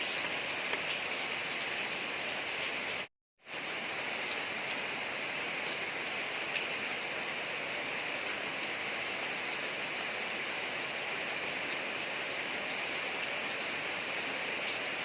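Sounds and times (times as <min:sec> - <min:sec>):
rain falling on a street: 0:00.0 - 0:15.0.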